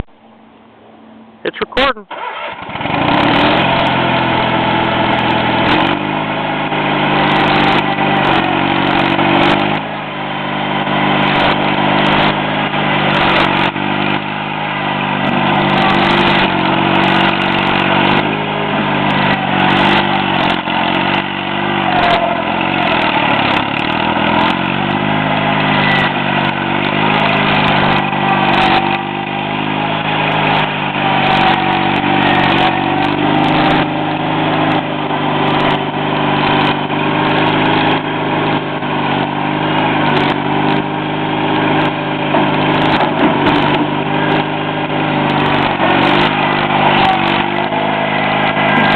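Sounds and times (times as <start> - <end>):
loader engine running: 0.0 - 48.9.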